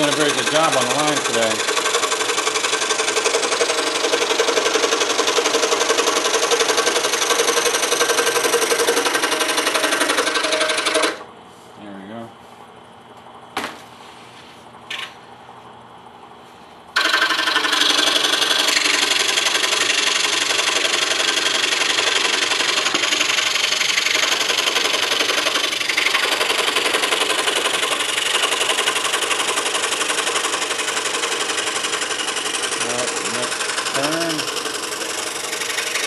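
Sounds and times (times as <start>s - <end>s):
scroll saw cutting wood: 0.0s - 11.2s, 17.0s - 36.0s.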